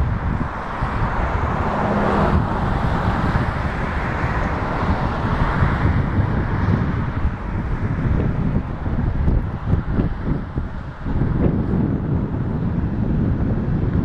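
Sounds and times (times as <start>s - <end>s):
traffic noise: 0.0s - 14.0s
vehicle passing close by: 0.0s - 14.0s
wind buffeting microphone: 0.0s - 14.0s.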